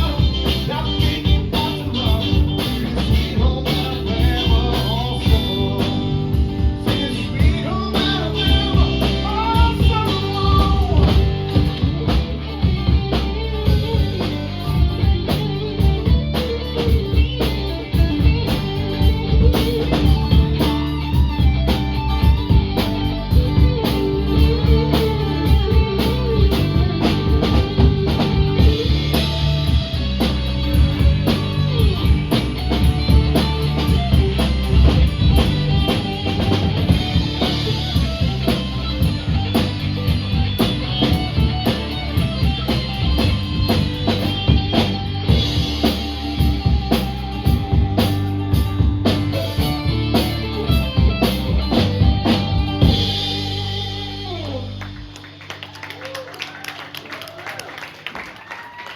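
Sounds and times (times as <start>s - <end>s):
live band playing: 0.0s - 58.9s.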